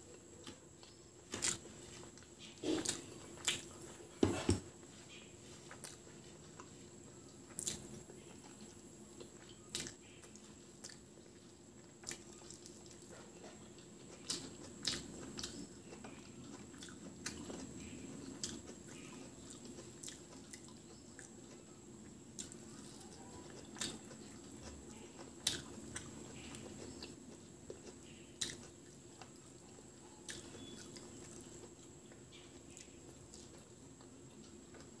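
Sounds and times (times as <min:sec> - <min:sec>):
faint steady hum: 0:00.0 - 0:35.0
person chewing with mouth smacks: 0:00.0 - 0:35.0.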